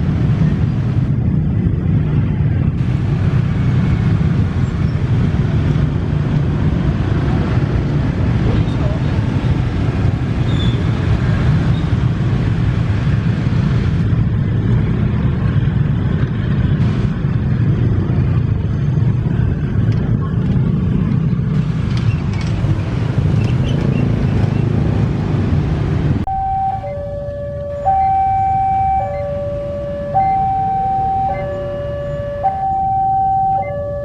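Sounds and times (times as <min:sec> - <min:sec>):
rumble of passing vehicles: 0:00.0 - 0:34.0.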